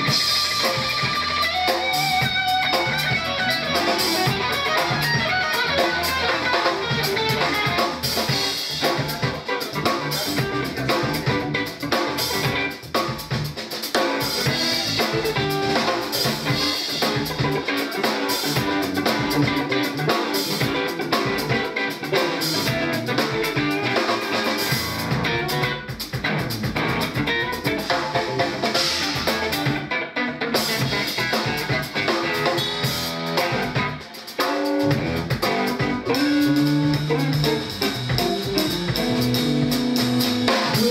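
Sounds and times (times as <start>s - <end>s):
bass guitar: 0.0s - 40.9s
drum kit with rimshots: 0.0s - 40.9s
electric guitar: 0.0s - 40.9s.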